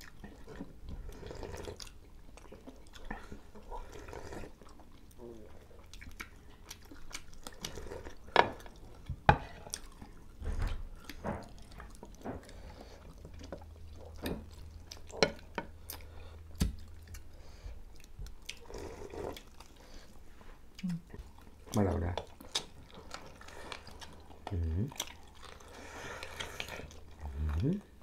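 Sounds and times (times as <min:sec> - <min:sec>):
chewing: 0:00.0 - 0:28.0.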